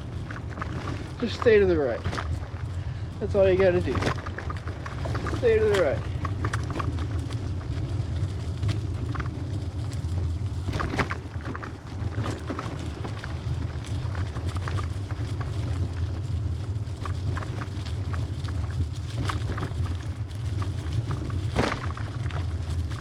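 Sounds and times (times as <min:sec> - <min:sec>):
bicycle clicks and rattles: 0:00.0 - 0:23.0
tyre and wind rumble: 0:00.0 - 0:23.0.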